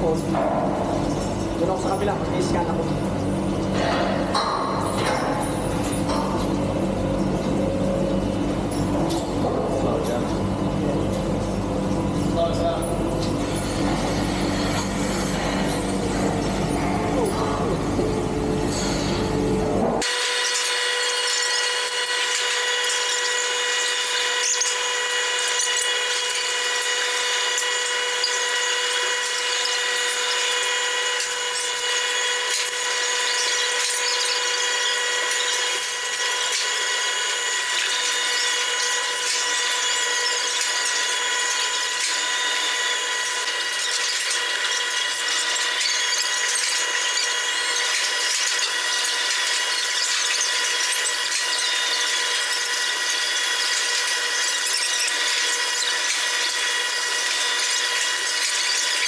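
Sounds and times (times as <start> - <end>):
milking machinery whine: 0.0 - 59.0.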